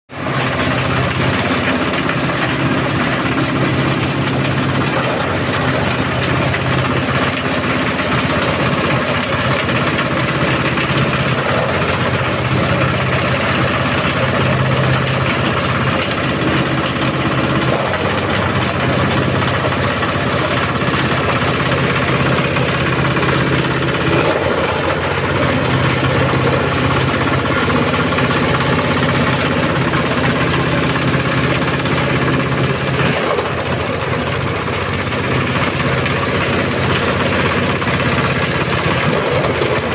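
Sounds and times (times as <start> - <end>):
grinding machine droning: 0.2 - 39.9.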